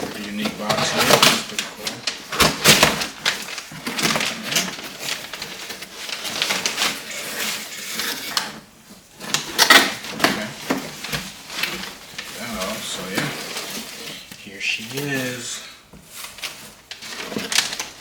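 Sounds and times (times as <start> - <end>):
packing material rustling: 0.0 - 18.0.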